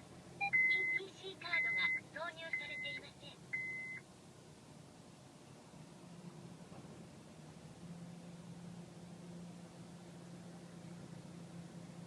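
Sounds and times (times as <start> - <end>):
car engine idling hum: 0.0 - 12.0.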